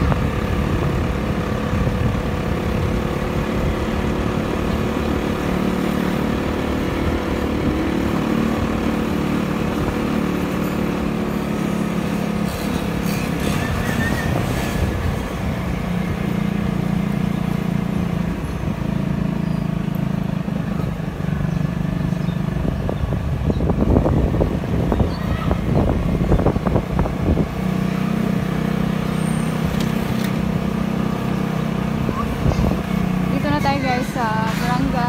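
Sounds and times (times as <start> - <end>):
motor scooter engine hum: 0.0 - 35.0
road and wind noise: 0.0 - 35.0.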